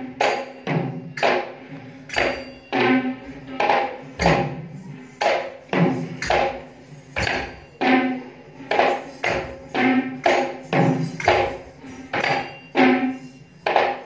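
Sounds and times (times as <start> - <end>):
drums played rhythmically: 0.0 - 1.6, 2.2 - 14.0.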